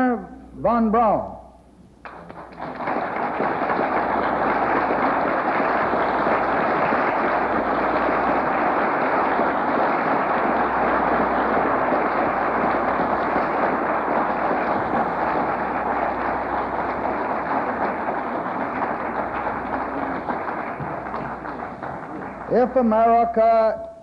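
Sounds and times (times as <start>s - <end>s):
audience applause: 2.0s - 23.3s.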